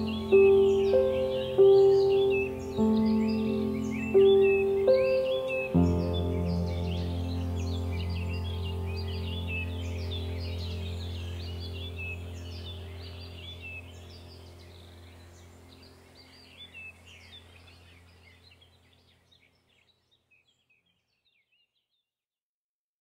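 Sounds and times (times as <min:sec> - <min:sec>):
low steady hum: 0:00.0 - 0:19.6
small birds chirping: 0:00.0 - 0:22.1.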